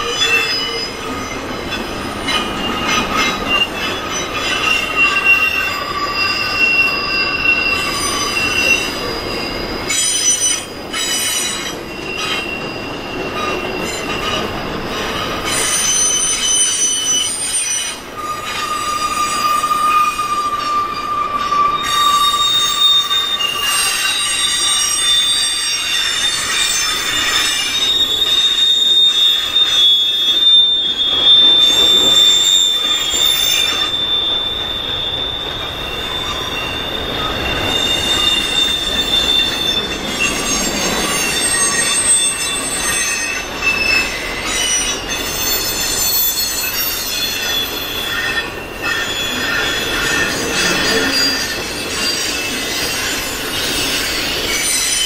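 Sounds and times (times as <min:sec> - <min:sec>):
train wheels squealing on rails: 0:00.0 - 0:55.0.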